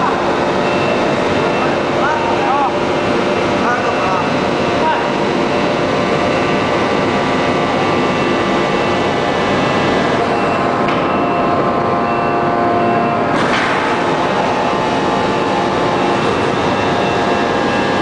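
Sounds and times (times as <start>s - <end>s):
forging press mechanical drone: 0.0s - 18.0s.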